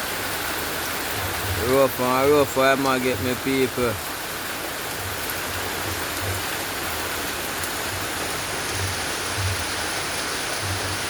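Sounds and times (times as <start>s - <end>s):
heavy rain falling: 0.0s - 11.0s
rushing runoff water: 0.0s - 11.0s.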